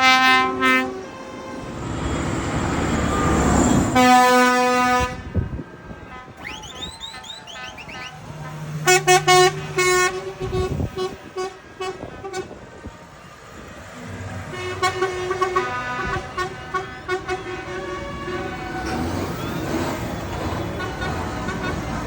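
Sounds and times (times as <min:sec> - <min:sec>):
vehicle horns tooting: 0:00.0 - 0:12.8, 0:14.5 - 0:22.0
diesel engines rumbling: 0:00.0 - 0:22.0.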